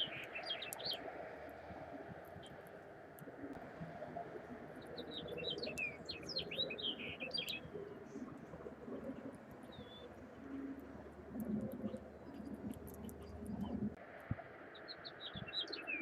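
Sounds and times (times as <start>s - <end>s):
low background rumble: 0.0s - 15.5s
songbird chirping: 0.0s - 16.0s.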